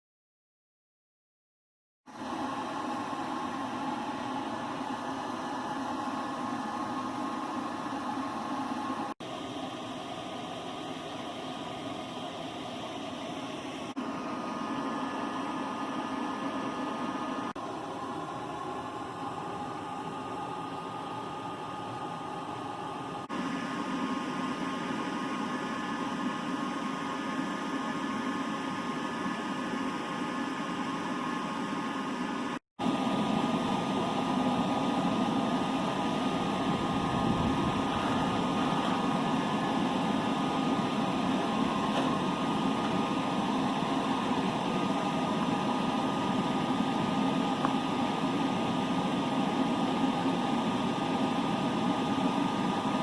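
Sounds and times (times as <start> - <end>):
rushing machine noise: 2.1 - 53.0
steady hum: 2.1 - 53.0.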